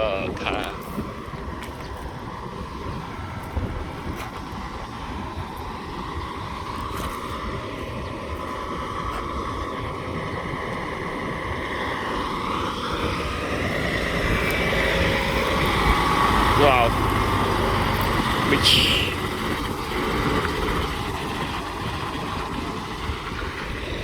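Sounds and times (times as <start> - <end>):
truck engine droning: 0.0 - 24.0.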